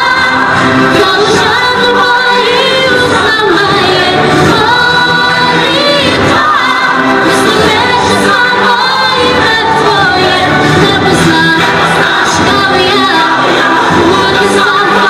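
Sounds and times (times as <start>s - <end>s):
girl singing into a microphone: 0.0s - 15.0s.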